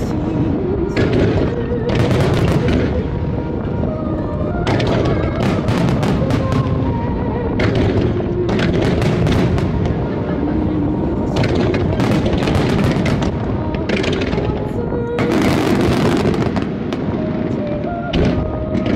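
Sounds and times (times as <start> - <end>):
fireworks bursting: 0.0 - 18.9
music: 0.0 - 18.9
fireworks sharp cracks: 0.8 - 3.9, 4.5 - 10.3, 11.1 - 18.9.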